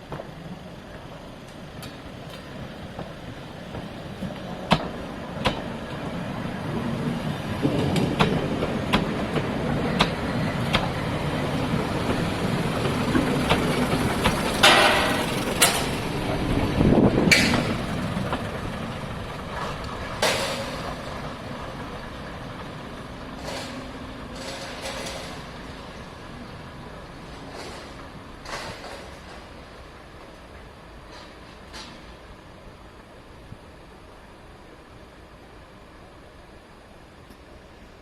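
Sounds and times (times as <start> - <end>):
diesel train running: 0.0 - 38.0.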